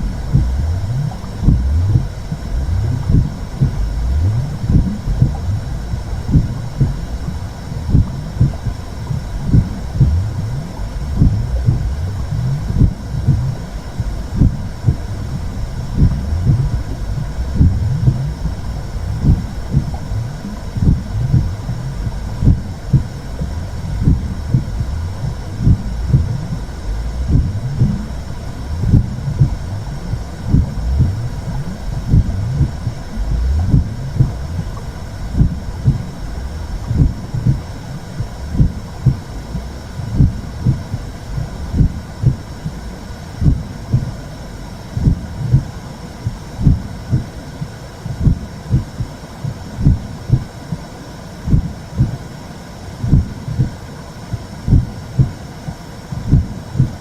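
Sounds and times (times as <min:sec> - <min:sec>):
low whooshing rumble: 0:00.0 - 0:50.6
low heartbeat thumps: 0:00.0 - 0:52.3, 0:53.0 - 0:57.0.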